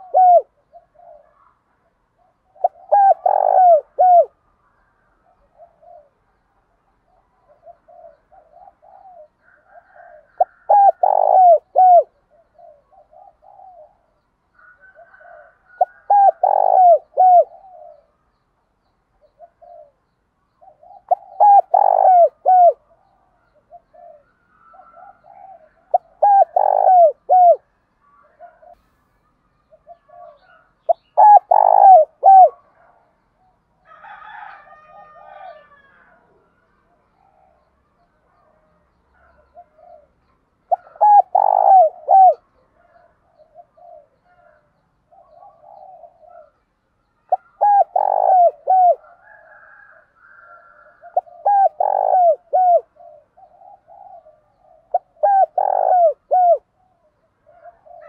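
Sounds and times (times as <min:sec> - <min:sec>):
doves cooing: 0:00.0 - 0:18.2, 0:19.2 - 0:20.0, 0:20.6 - 0:28.8, 0:29.7 - 0:58.0.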